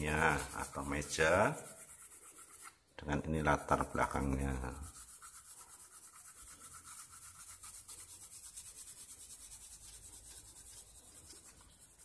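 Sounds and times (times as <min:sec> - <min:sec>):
pencil shading on paper: 0:00.0 - 0:02.8, 0:03.5 - 0:12.0.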